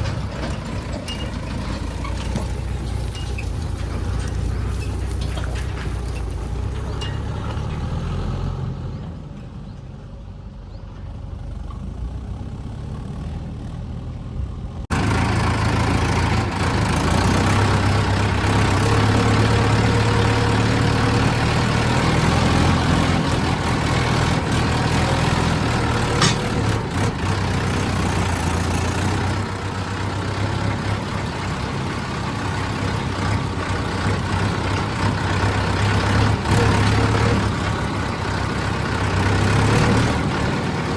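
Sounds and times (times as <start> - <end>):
heavy diesel engine humming: 0.0 - 40.9.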